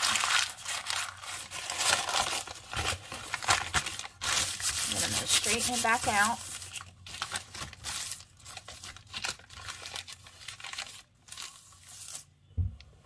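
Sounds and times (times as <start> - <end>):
paper crackling and rustling: 0.0 - 12.4.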